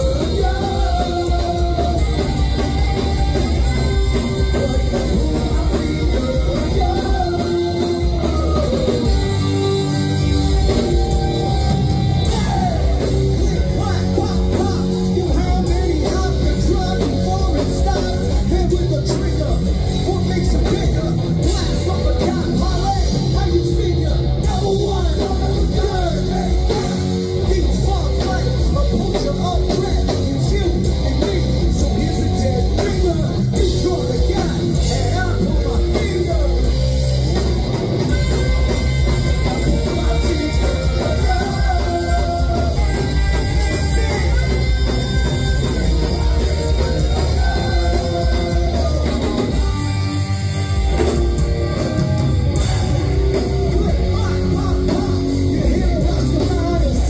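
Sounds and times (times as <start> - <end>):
lead vocal singing: 0.0 - 50.1, 52.6 - 57.0
bass guitar: 0.0 - 57.0
drum kit beat: 0.0 - 57.0
electric guitar: 0.0 - 57.0.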